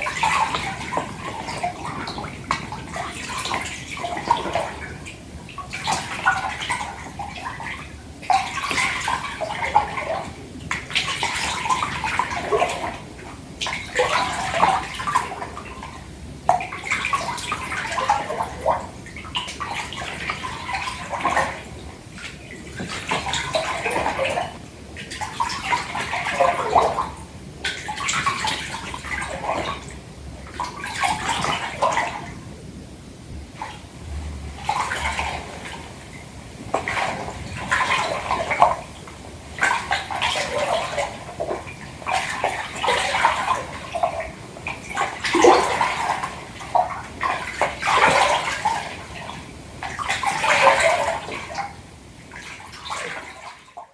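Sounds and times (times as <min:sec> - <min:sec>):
bath water sloshing: 0:00.0 - 0:32.6, 0:33.4 - 0:53.9.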